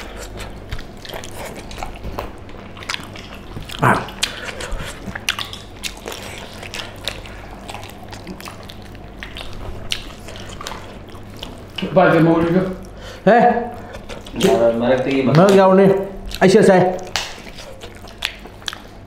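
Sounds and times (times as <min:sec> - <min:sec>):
wet chewing and lip smacking: 0:00.0 - 0:19.0.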